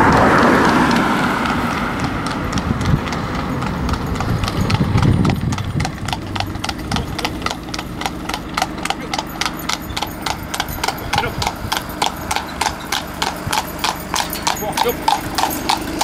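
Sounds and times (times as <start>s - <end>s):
car noise: 0.0s - 16.0s
hooves clip-clopping on tarmac: 0.0s - 16.0s.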